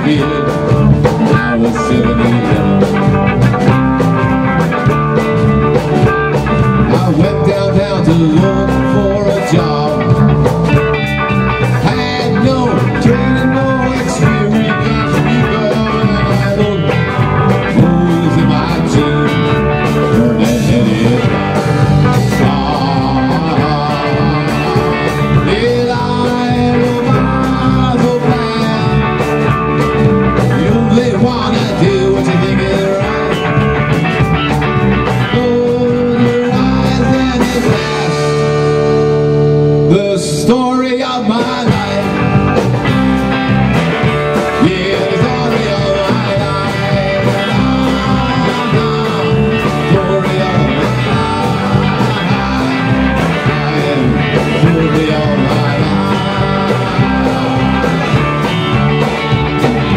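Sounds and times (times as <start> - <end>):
drum kit: 0.0 - 59.9
rock band playing: 0.0 - 59.9.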